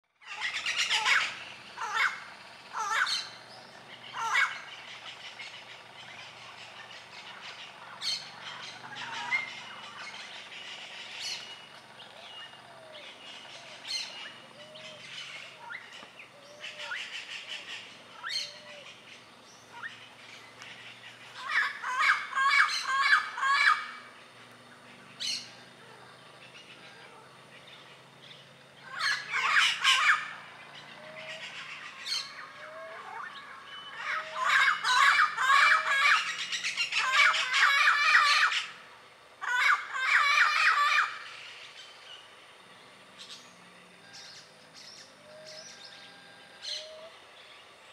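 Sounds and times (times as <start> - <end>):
parrots calling: 0.2 - 24.2, 24.9 - 42.2.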